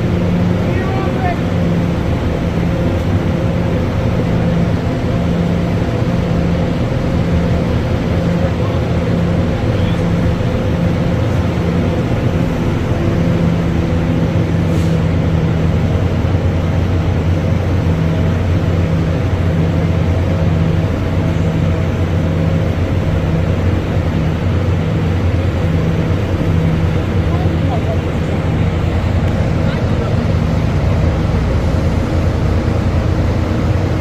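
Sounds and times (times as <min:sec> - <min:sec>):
diesel locomotive engine humming: 0:00.0 - 0:34.0.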